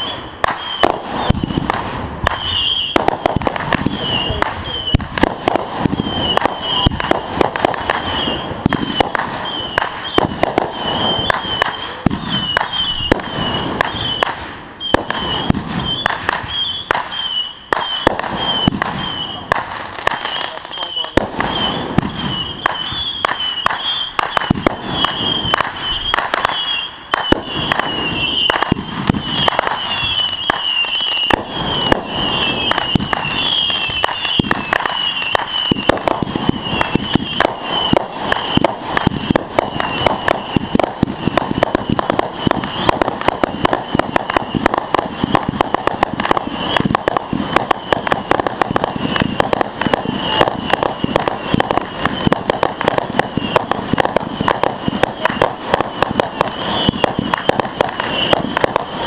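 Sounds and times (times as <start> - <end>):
fireworks crackling and banging: 0.0 - 59.0
high warbling whistle: 2.3 - 3.0, 8.0 - 19.4, 20.2 - 45.4, 46.4 - 52.5, 53.2 - 58.6.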